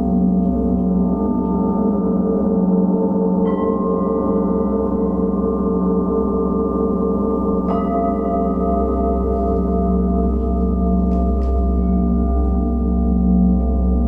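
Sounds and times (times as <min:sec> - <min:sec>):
gong ringing: 0:00.0 - 0:14.0.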